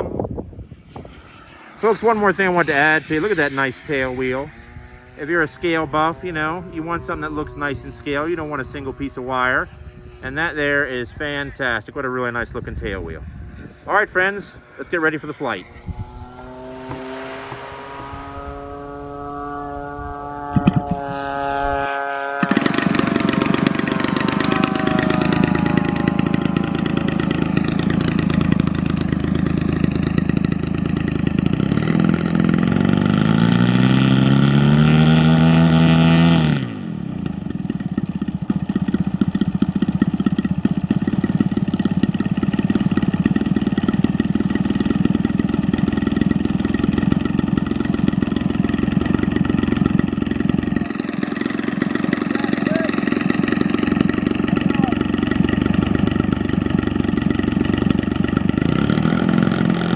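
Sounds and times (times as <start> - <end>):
model plane engine running: 0.0 - 59.9.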